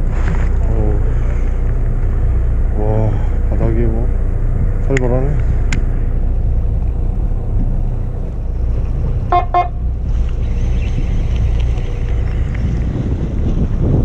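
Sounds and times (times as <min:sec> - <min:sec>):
boat engine idling: 0:00.0 - 0:13.9.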